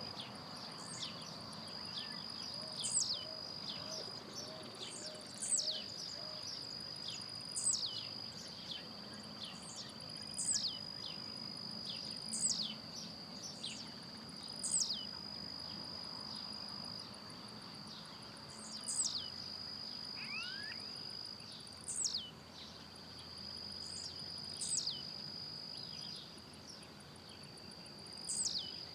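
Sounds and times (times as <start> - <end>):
high insect trill: 0.0 - 28.9.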